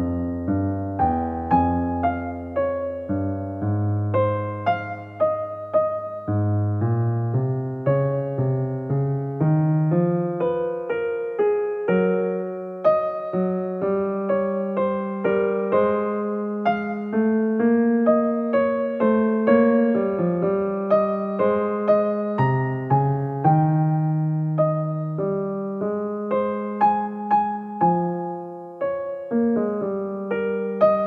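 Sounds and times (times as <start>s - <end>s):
slow piano music: 0.0s - 31.0s.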